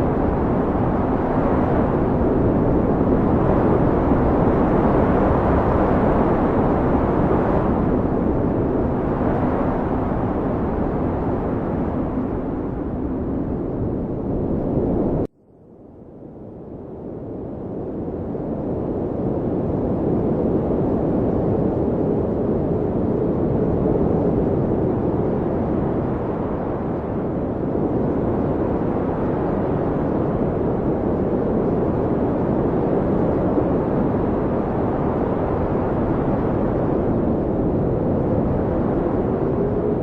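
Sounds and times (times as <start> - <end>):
blizzard wind blowing: 0.0 - 15.3, 16.0 - 40.0.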